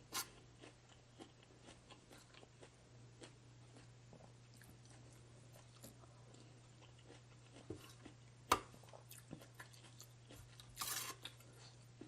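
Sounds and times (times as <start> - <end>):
steady low hum: 0.0 - 12.0
chewing with mouth clicks: 0.2 - 12.0.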